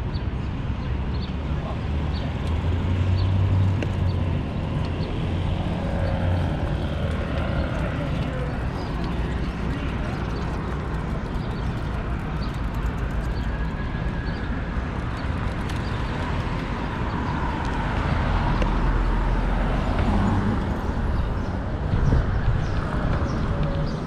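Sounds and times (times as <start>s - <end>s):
steady traffic: 0.0s - 24.0s
wind rumble on microphone: 0.0s - 24.0s.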